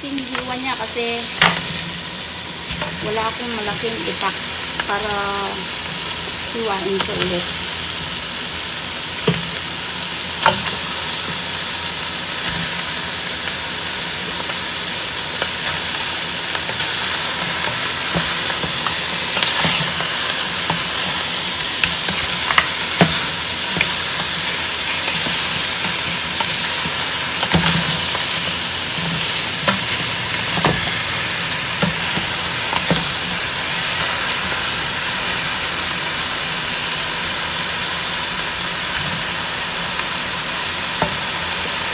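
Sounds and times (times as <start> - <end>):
meat sizzling in a pot: 0.0 - 41.9.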